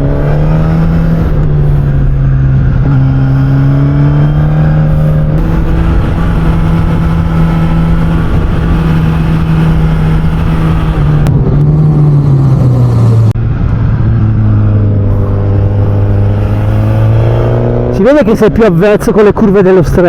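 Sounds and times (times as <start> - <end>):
motorcycle engine running loud: 0.0 - 19.1.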